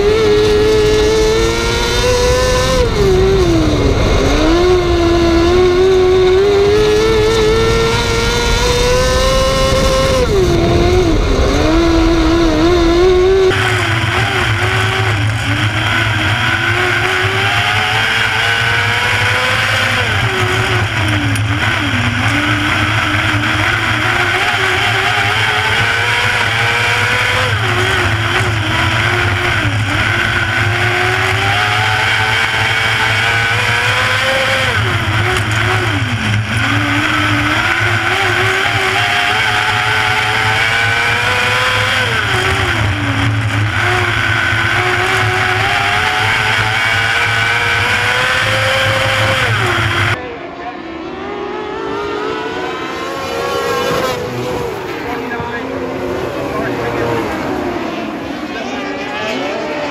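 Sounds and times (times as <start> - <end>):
racing motorcycle engine: 0.0 - 59.9.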